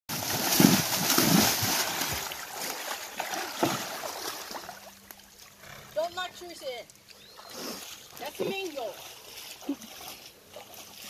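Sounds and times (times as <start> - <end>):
hoof splashing in water: 0.1 - 11.0
water movement: 0.1 - 11.0.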